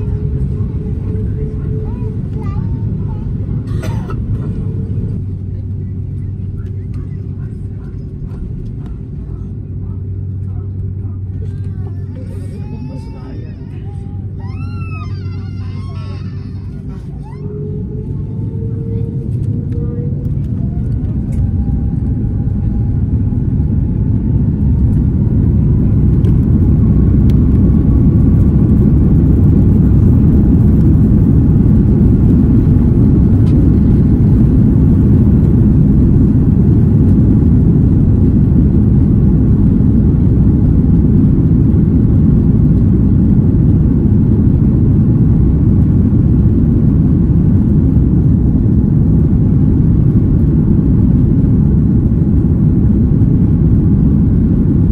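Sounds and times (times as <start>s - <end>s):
jet engines whining: 0.0s - 54.9s
low engine rumble: 0.0s - 54.9s.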